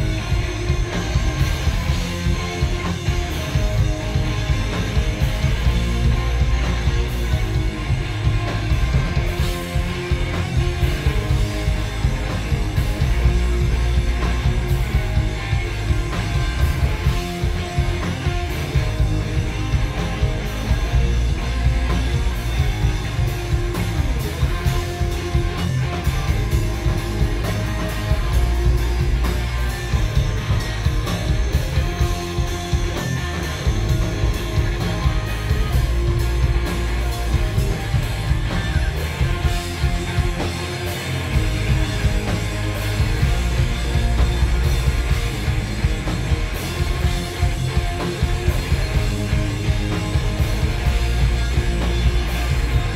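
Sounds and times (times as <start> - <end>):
drum and cymbal hits: 0.0 - 52.9
electric guitars: 0.0 - 52.9.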